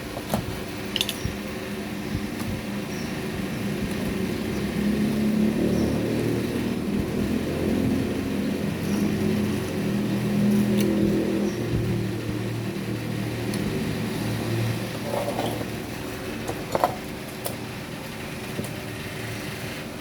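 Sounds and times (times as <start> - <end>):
motor engine running: 0.0 - 20.0.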